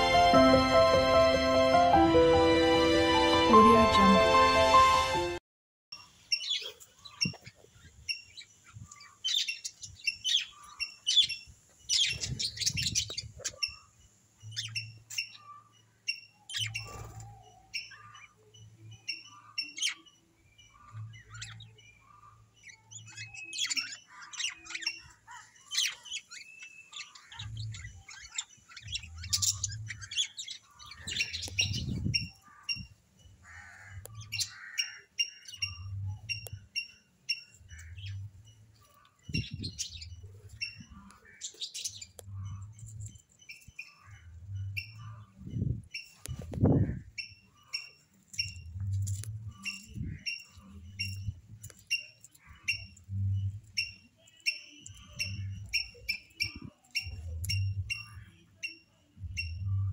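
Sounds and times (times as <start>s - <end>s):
birds chirping: 6.0s - 59.9s.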